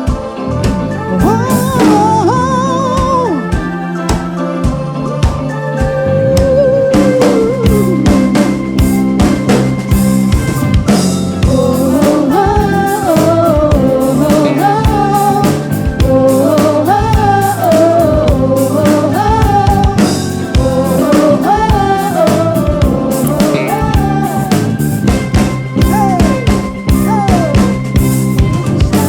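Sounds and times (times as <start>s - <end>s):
person singing: 0.0s - 8.9s, 11.4s - 29.0s
bass guitar: 0.0s - 29.0s
drum kit: 0.0s - 29.0s
electric guitar: 0.0s - 29.0s.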